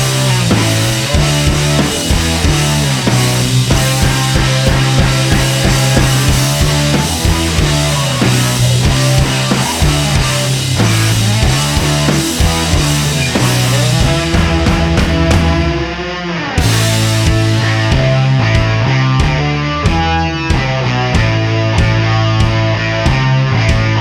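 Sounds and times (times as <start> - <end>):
distorted guitar: 0.0 - 24.0
driving drum beat: 0.0 - 24.0
steady bass line: 0.0 - 24.0.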